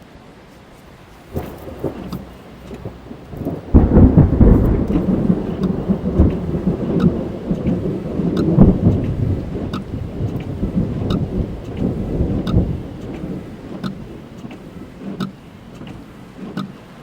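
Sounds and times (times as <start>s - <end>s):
raindrops ticking on car: 0.7s - 17.0s
thunder rumbling: 1.0s - 17.0s.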